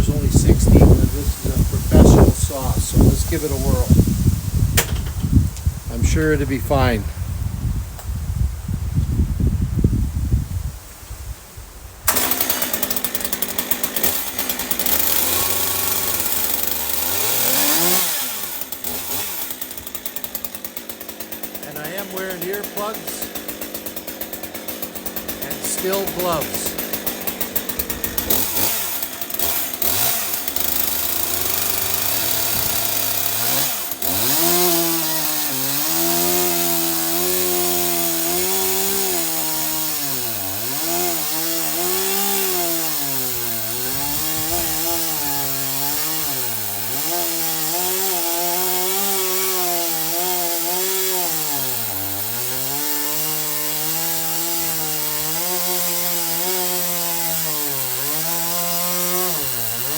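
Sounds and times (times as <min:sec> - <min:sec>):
chainsaw cutting wood: 0:00.0 - 0:07.0, 0:12.0 - 0:59.9.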